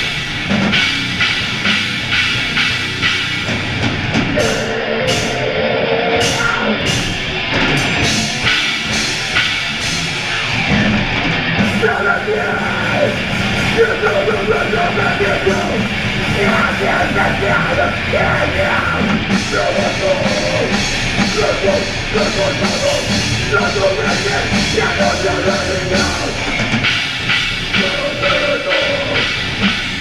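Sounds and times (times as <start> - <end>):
live metal band playing: 0.0 - 30.0.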